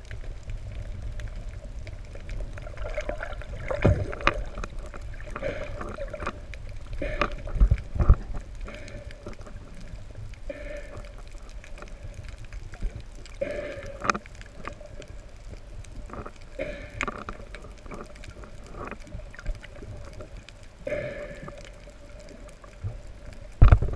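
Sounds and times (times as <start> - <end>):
low underwater rumble: 0.0 - 23.9.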